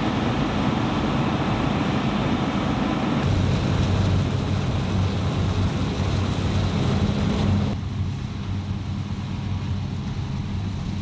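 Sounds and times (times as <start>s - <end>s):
combine harvester engine hum: 0.0s - 11.0s
rushing noise: 0.0s - 11.0s.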